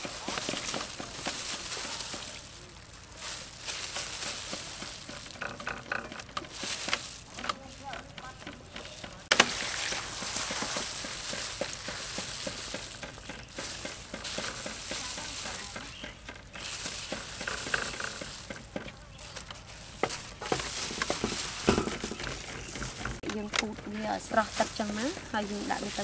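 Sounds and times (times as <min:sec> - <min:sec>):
plastic gloves crinkling: 0:00.0 - 0:26.0
shredded papaya rustling and squelching: 0:00.0 - 0:26.0.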